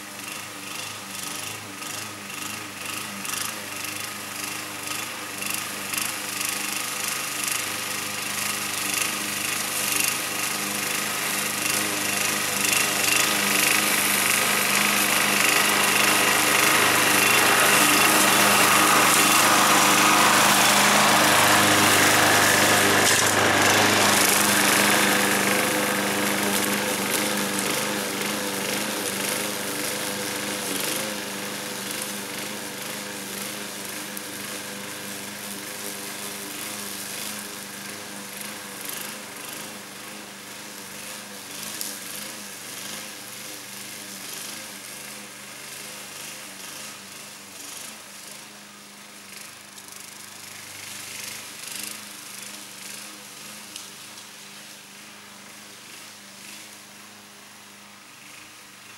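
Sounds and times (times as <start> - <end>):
lawnmower cutting grass: 0.0 - 58.9.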